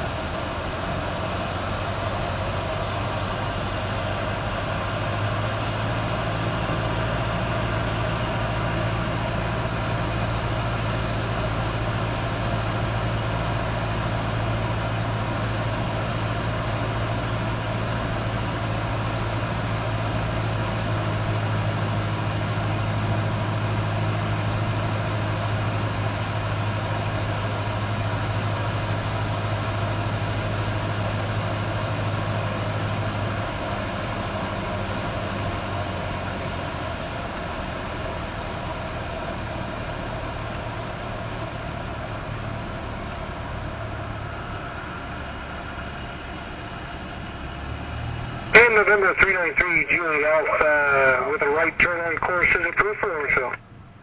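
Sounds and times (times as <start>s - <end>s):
airplane engine droning: 0.0s - 54.0s.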